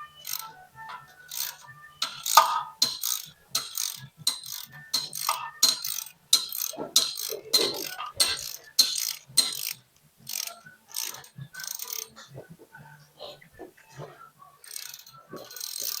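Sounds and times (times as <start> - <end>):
metal tools clinking: 0.0 - 12.5, 13.2 - 16.0
faint low hum: 0.0 - 16.0.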